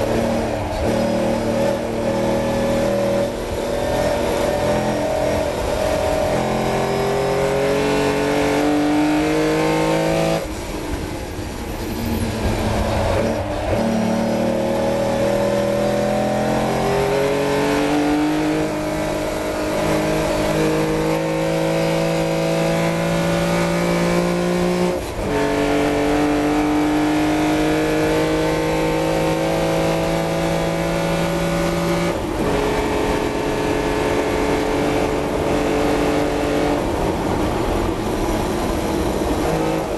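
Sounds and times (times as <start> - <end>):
car engine at full throttle: 0.0 - 39.9.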